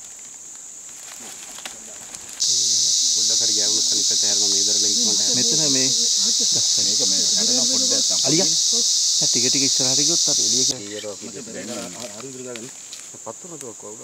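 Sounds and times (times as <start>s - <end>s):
forest insects droning: 0.0s - 14.0s
men talking: 2.4s - 14.0s.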